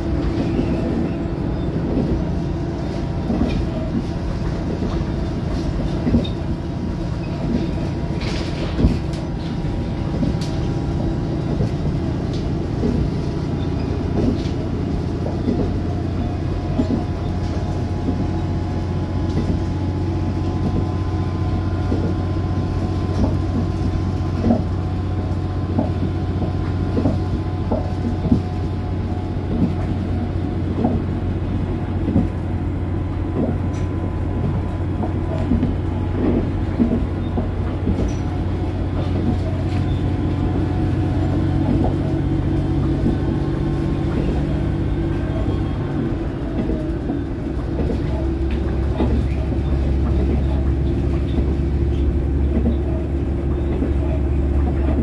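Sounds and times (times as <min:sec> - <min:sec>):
diesel railcar engine drone: 0:00.0 - 0:55.0
wheels clicking on rails: 0:00.0 - 0:55.0.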